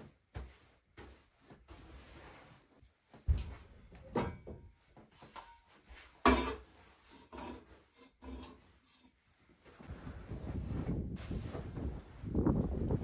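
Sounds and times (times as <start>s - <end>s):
broom sweeping wooden floor: 0.0s - 3.9s, 5.0s - 12.5s.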